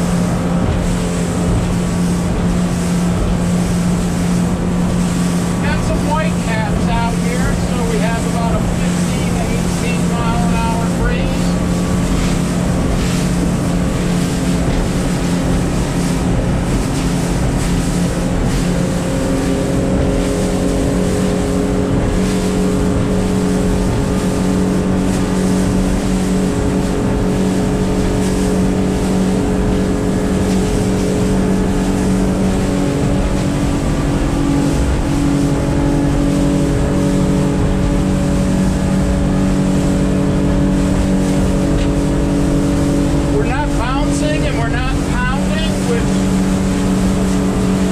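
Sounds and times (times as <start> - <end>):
outboard engine drone: 0.0 - 47.9
water rushing along hull: 0.0 - 47.9.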